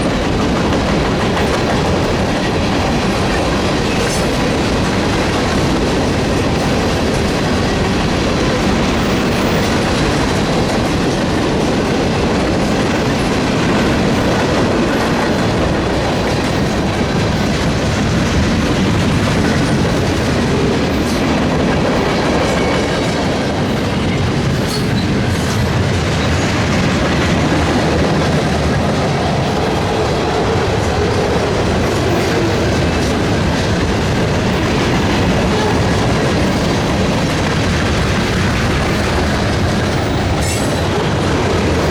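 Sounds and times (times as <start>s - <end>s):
train cars rumbling past: 0.0s - 41.9s.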